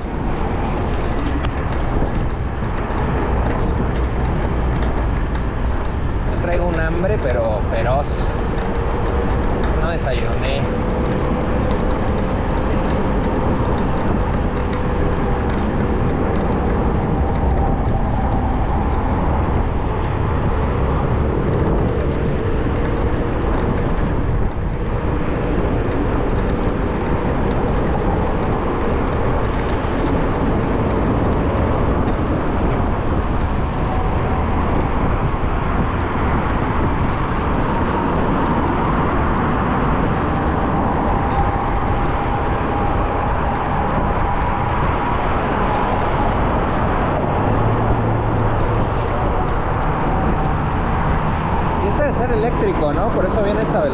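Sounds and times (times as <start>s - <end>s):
road traffic: 0.0s - 53.9s
wind on microphone: 0.0s - 53.9s.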